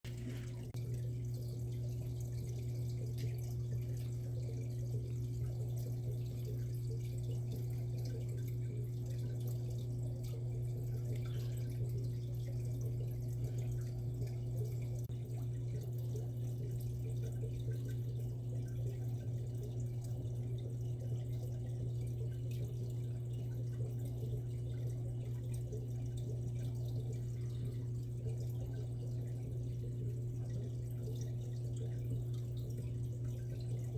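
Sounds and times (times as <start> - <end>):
aquarium filter humming: 0.1 - 33.9
water trickling and dripping: 0.1 - 33.9.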